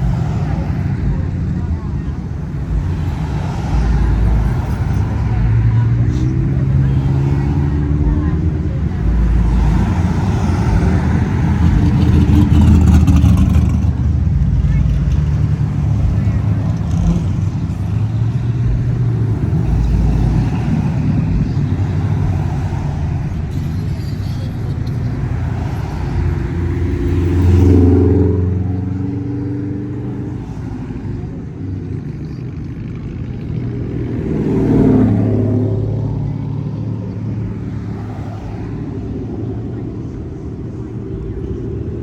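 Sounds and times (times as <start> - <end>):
cars driving past: 0.0 - 42.0.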